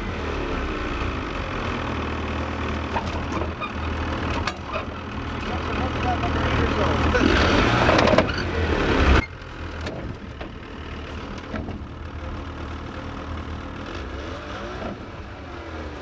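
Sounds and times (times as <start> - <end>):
snowmobile engine idling: 0.0 - 7.4, 9.0 - 16.0.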